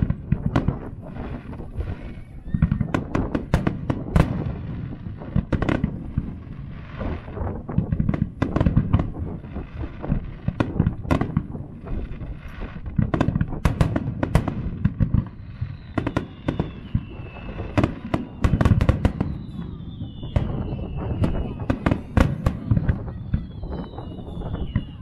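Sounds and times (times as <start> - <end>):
firework crackle: 0.0 - 25.0.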